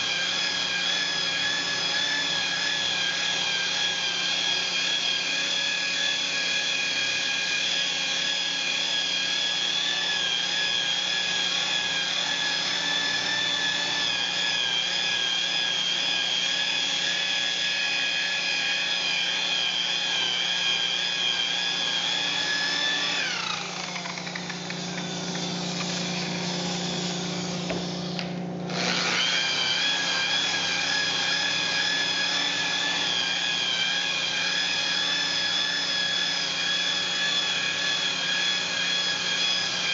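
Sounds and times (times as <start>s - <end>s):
electric polisher motor whine: 0.0s - 39.9s.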